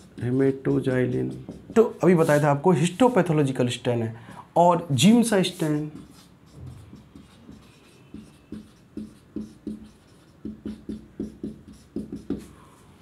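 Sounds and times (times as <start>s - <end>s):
marker writing on whiteboard: 0.0s - 3.4s, 4.5s - 13.0s.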